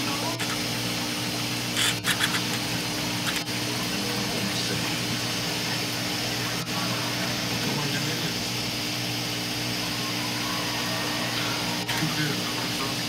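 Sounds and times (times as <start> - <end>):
aquarium pumps and circulating water: 0.0 - 13.0.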